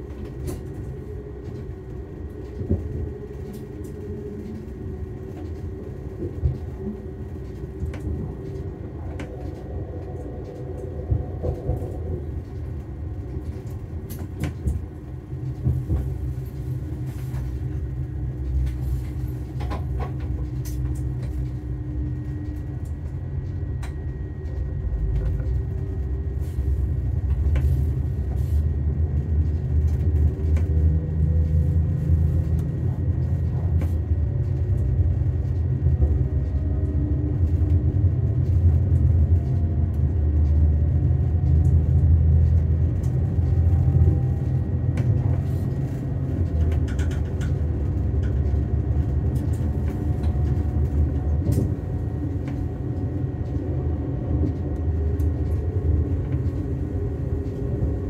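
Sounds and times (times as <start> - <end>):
railcar engine rumble: 0.0 - 58.0.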